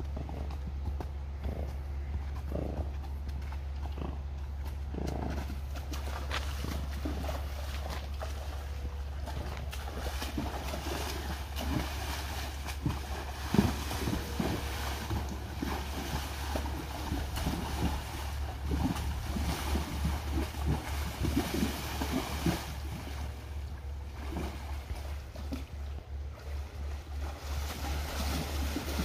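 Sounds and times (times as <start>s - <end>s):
hooves splashing in water: 0.0s - 29.0s.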